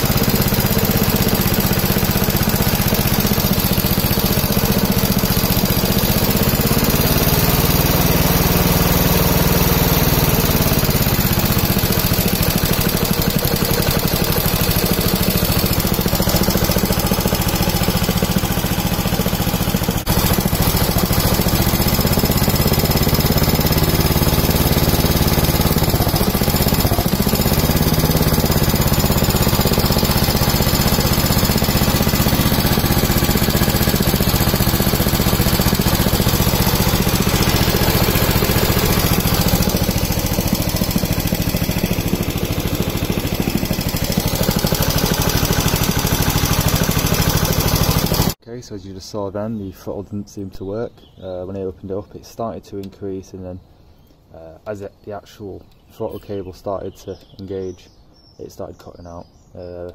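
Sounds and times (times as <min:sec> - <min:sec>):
small engine running: 0:00.0 - 0:48.4.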